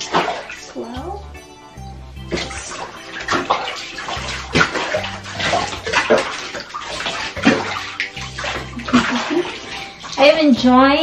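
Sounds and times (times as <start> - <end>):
water splashing in a bathtub: 0.0 - 1.2, 2.1 - 11.0.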